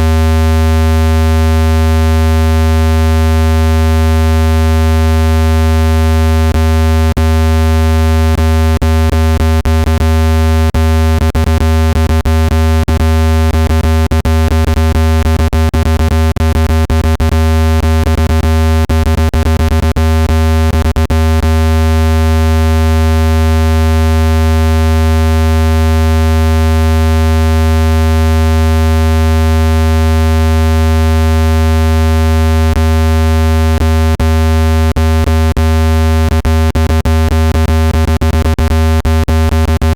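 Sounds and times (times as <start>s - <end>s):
low buzzy synthesized tone: 7.2s - 39.9s.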